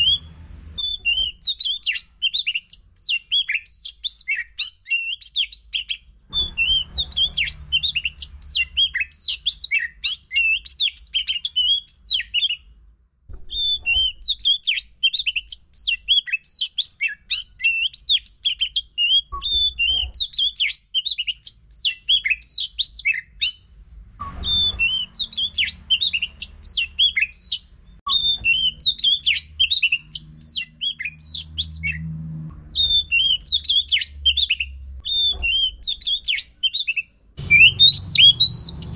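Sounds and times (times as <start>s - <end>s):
bird singing chirps and whistles: 0.0s - 12.7s, 13.3s - 38.9s.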